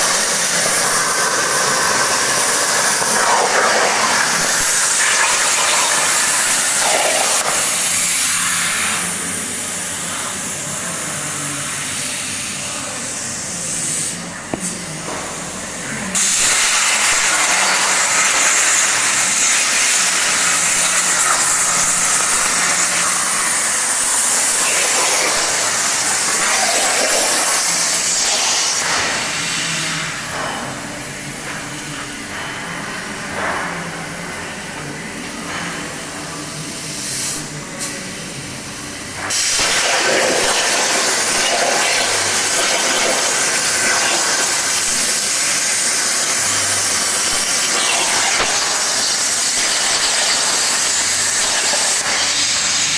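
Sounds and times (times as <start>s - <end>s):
plasma torch cutting steel hiss: 0.0s - 14.9s, 16.1s - 30.3s, 39.2s - 52.9s.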